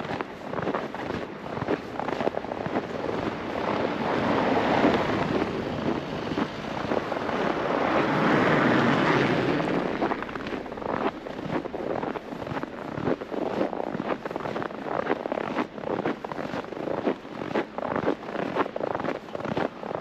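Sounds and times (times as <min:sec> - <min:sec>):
road and tyre noise: 0:00.0 - 0:20.0
vehicles passing: 0:01.2 - 0:17.4.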